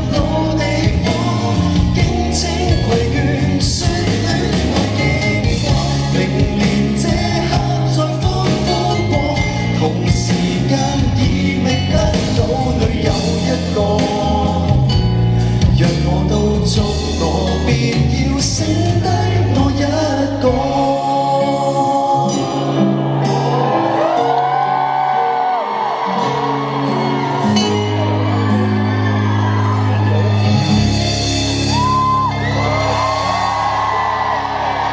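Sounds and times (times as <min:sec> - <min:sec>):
live pop-rock band with singing: 0:00.0 - 0:34.9.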